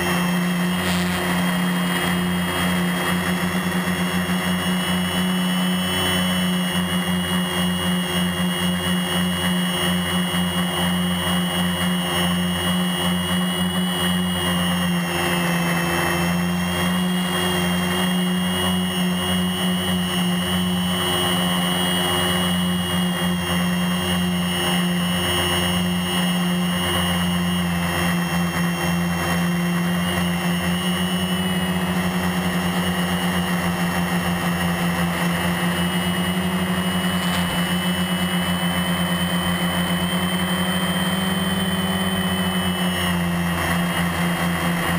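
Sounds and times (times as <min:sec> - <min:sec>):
drone motors humming and whining: 0:00.0 - 0:44.9.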